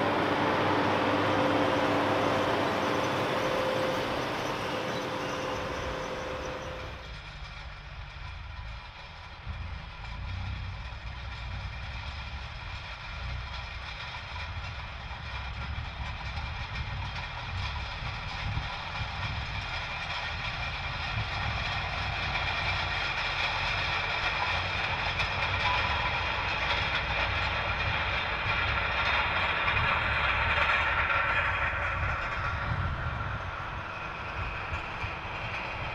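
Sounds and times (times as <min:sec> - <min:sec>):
tractor engine drone with whine: 0:00.0 - 0:35.9.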